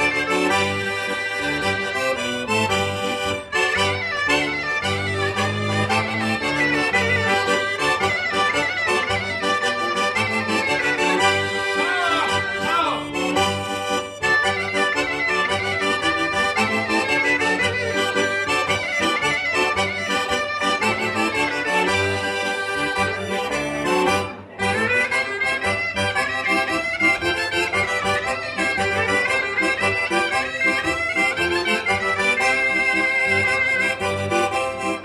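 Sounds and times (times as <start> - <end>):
accordion: 0.0 - 35.0
shawm melody: 0.0 - 35.0.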